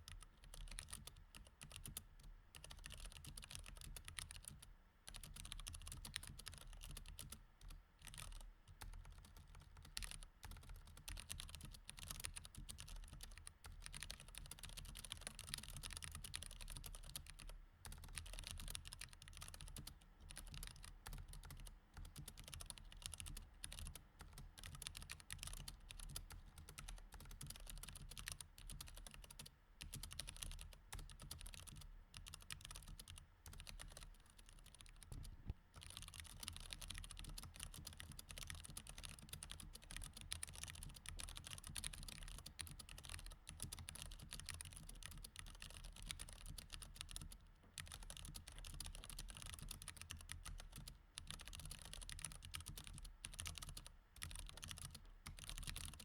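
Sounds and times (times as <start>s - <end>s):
mechanical keyboard typing: 0.1s - 2.0s, 2.6s - 56.0s.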